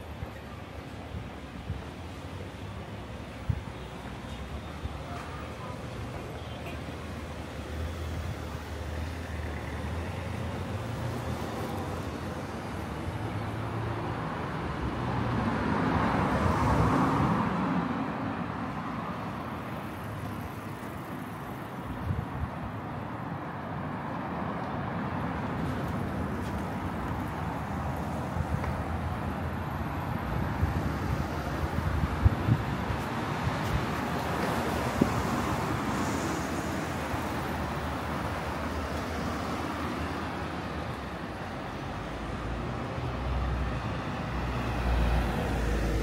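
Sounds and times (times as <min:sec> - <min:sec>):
road traffic noise: 0:00.0 - 0:46.0.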